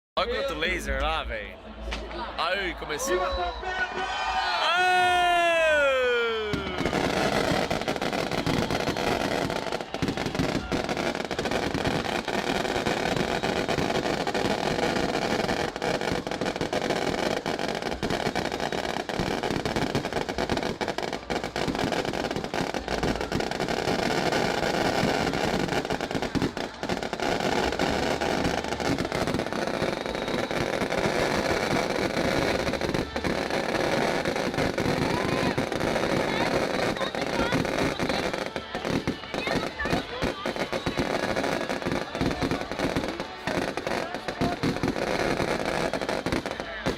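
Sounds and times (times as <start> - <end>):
fireworks crackling and popping: 4.6 - 46.9.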